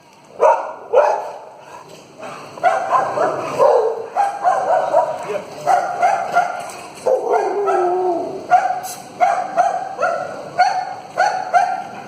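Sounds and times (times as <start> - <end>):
dog barking: 0.4 - 1.4, 2.6 - 11.9.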